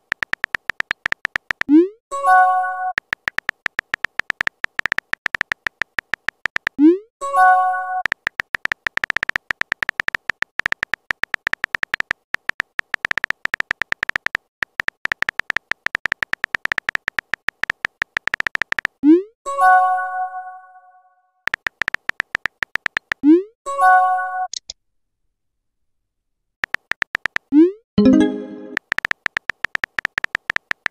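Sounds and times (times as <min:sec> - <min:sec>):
electronic keyboard clicks: 0:00.0 - 0:19.1, 0:21.5 - 0:23.3, 0:26.6 - 0:30.9.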